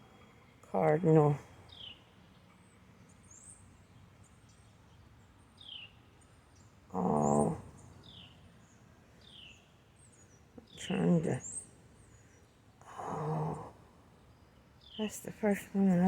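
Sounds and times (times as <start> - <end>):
faint songbird chirps: 0.1 - 16.0.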